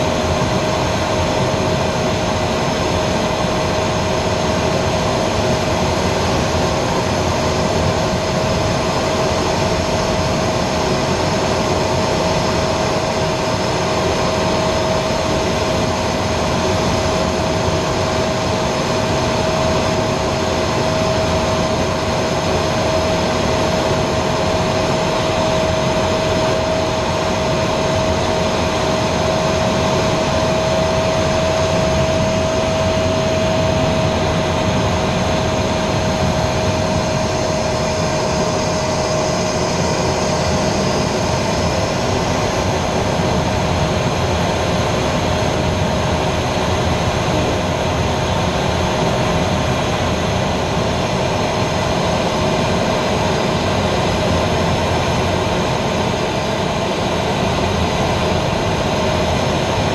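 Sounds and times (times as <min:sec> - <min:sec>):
constant whine: 0:00.0 - 0:59.9
jet engine noise in cockpit: 0:00.0 - 0:59.9
rushing air: 0:00.0 - 0:59.9.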